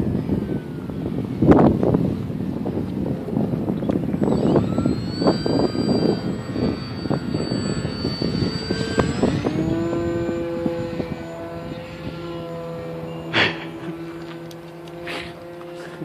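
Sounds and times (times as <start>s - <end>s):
model plane motor whining: 0.0s - 16.0s
wind buffeting microphone: 0.0s - 16.0s.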